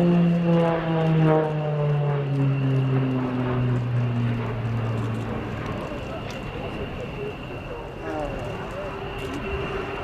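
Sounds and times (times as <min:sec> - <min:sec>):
steady high whine: 0:00.0 - 0:10.0
turboprop aircraft passing by: 0:00.0 - 0:10.0.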